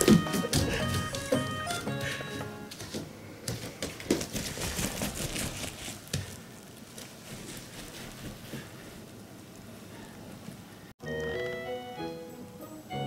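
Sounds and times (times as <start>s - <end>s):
footsteps and scuffling on floor: 0.0s - 10.6s.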